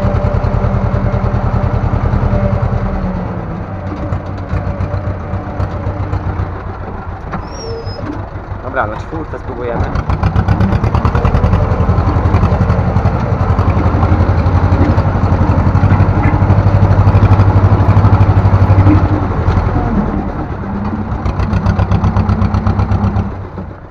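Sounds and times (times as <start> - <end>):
tractor diesel engine pulsing: 0.0 - 23.9.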